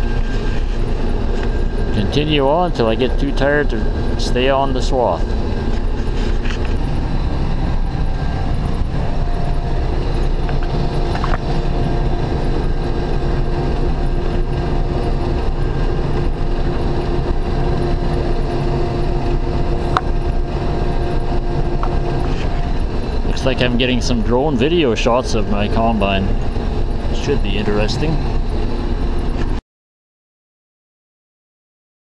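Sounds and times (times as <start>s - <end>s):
combine harvester rumbling: 0.0s - 29.6s
steady hum: 0.0s - 29.6s.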